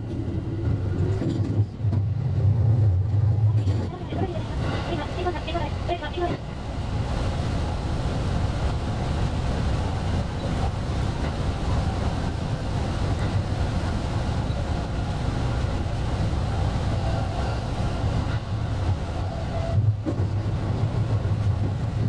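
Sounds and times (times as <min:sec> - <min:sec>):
wind and rail noise: 0:00.0 - 0:22.0.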